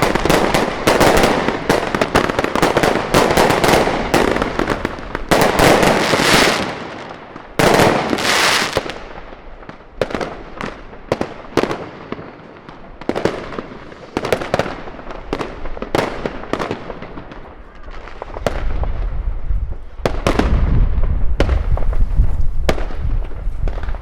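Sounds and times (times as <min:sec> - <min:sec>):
fireworks and firecrackers banging: 0:00.0 - 0:24.0.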